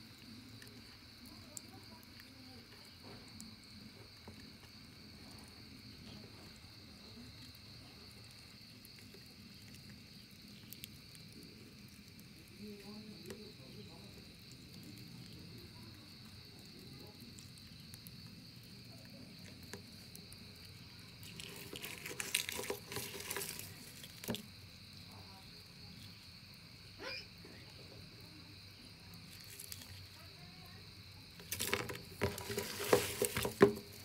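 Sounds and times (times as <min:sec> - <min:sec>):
rustling and crackling: 0:00.0 - 0:25.1, 0:29.0 - 0:34.0
night insects trilling: 0:00.0 - 0:34.0.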